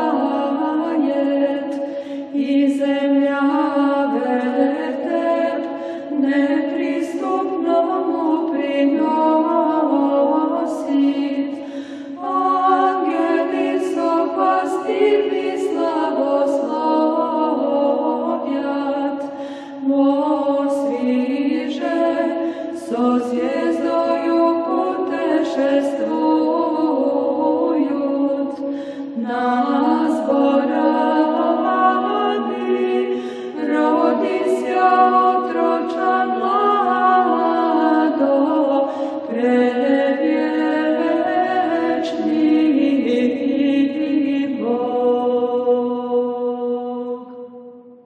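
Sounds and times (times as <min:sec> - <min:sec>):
choir chanting a cappella: 0:00.0 - 0:48.0.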